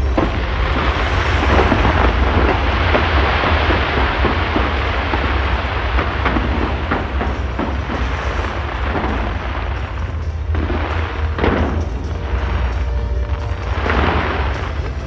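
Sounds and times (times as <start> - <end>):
deep rumble: 0.0 - 15.0
fireworks booms and cracks: 0.0 - 15.0.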